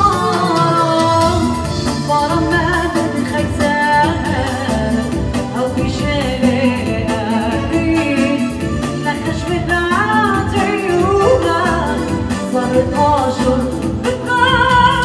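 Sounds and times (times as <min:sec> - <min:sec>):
drum kit beat: 0:00.0 - 0:15.0
woman singing into a microphone: 0:00.0 - 0:15.0.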